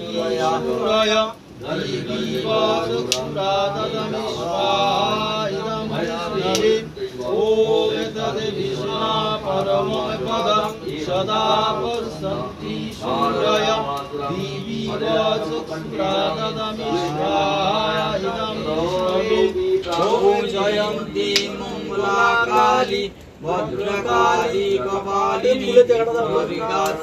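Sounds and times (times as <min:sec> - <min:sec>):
man chanting: 0:00.0 - 0:27.0.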